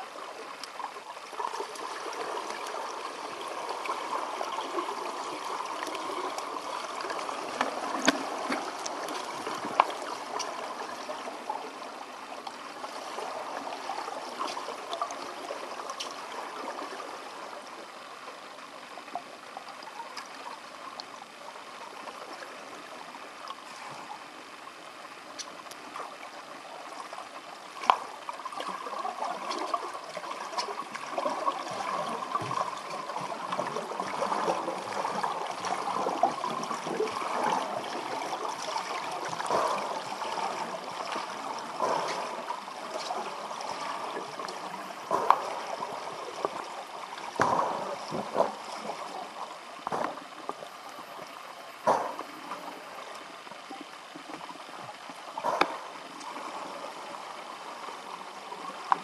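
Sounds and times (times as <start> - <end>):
underwater rushing and gurgling: 0.0 - 59.0.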